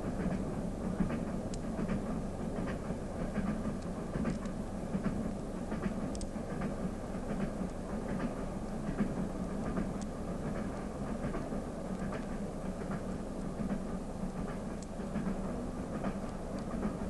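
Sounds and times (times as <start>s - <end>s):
faint clicks: 1.0s - 2.0s, 2.6s - 15.4s.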